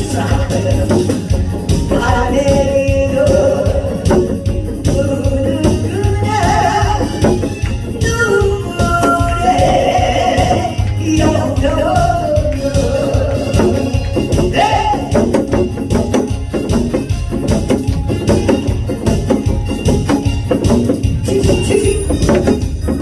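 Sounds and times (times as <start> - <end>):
drum beat: 0.0 - 23.0
wavering melody line: 0.0 - 23.0.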